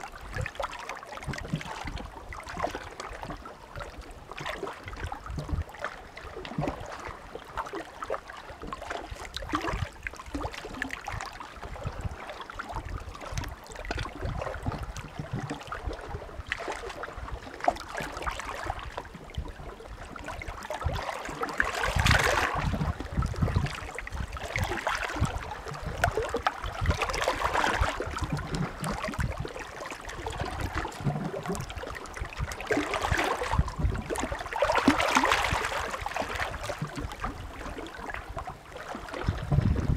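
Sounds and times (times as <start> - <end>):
waves lapping on shore: 0.0 - 39.9.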